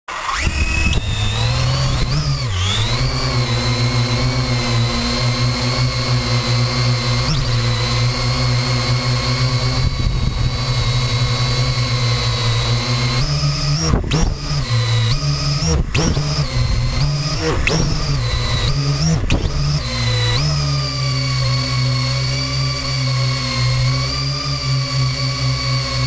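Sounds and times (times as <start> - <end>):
drone propellers whining: 0.1 - 26.0.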